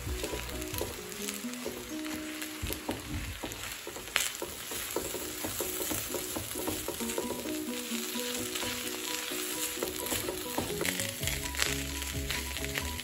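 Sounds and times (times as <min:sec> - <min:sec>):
light background music: 0:00.0 - 0:13.0
rice sizzling in a pan: 0:00.0 - 0:13.0
spatula scraping a pan: 0:00.2 - 0:13.0.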